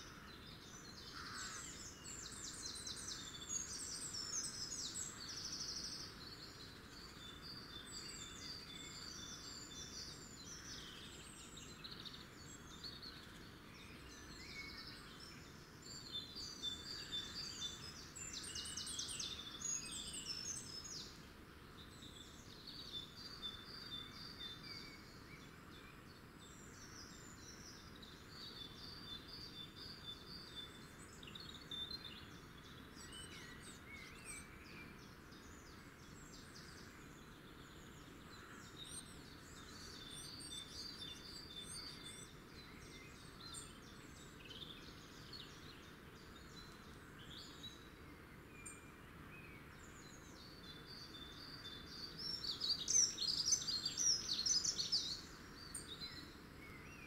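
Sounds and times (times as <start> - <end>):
outdoor background hiss: 0.0 - 57.0
small birds chirping: 0.0 - 57.0.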